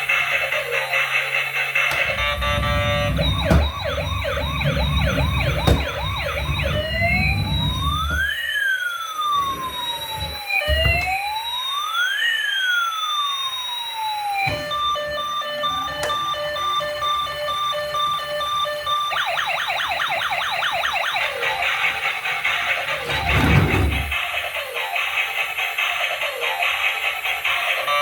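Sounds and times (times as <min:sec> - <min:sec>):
toy electronic siren: 0:00.0 - 0:28.0.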